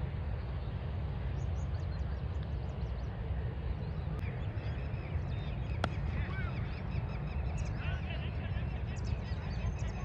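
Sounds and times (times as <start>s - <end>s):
steady low rumble: 0.0s - 10.0s
birds chirping: 0.4s - 10.0s.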